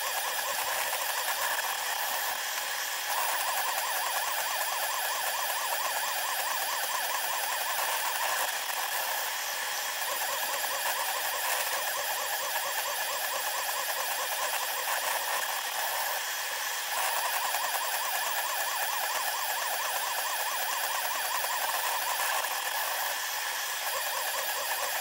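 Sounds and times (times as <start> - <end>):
stepper motors whining: 0.0 - 25.0.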